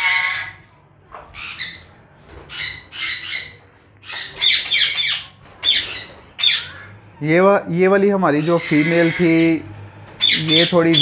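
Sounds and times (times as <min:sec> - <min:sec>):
parrots screeching: 0:00.0 - 0:00.7, 0:01.3 - 0:07.0, 0:08.3 - 0:11.0.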